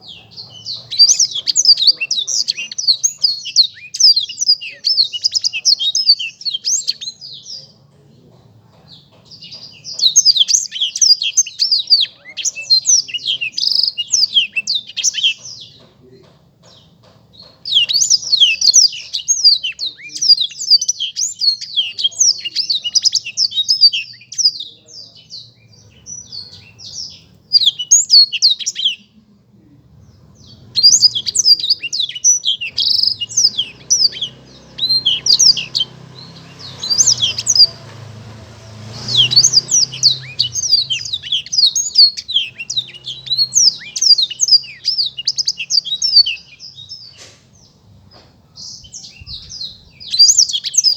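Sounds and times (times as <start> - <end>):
bird singing rapid chirps and trills: 0.0 - 50.9.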